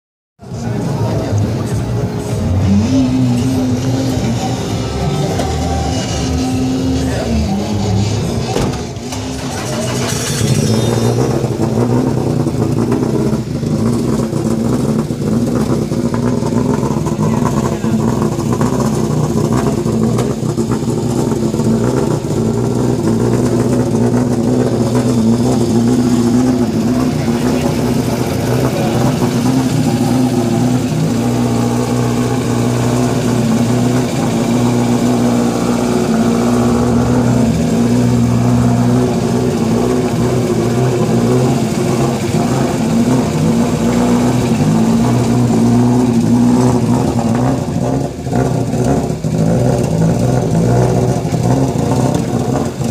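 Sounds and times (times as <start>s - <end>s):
car engine running at low revs: 0.4s - 52.9s.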